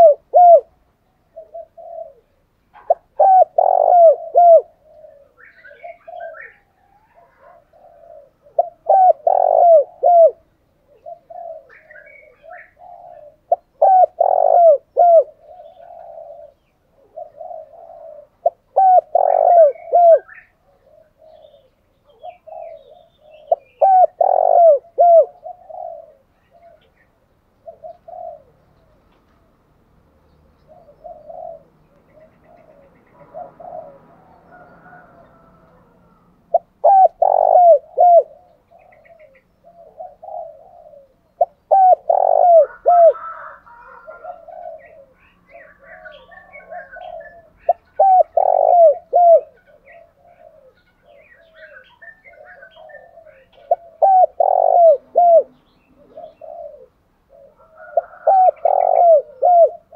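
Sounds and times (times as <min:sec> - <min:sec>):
dove cooing: 0:00.0 - 0:29.6, 0:30.6 - 0:59.9.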